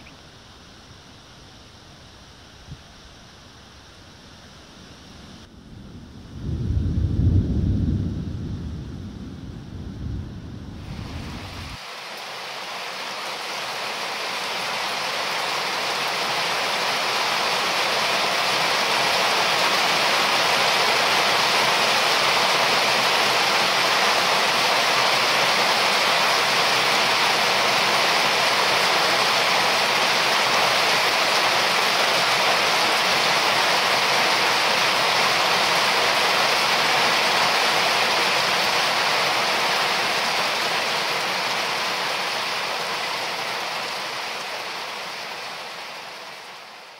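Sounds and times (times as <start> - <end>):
heavy rain on forest: 0.0 - 46.9.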